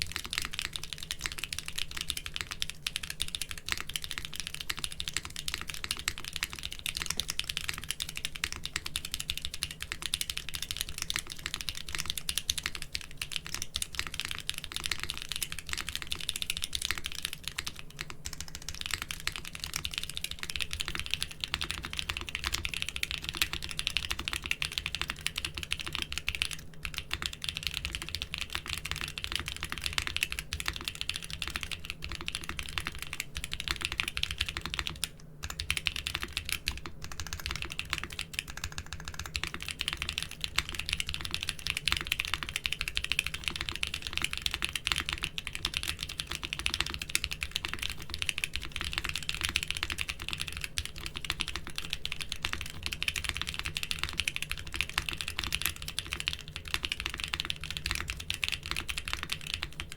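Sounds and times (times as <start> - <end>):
fast typing on mechanical keyboard: 0.0 - 59.9.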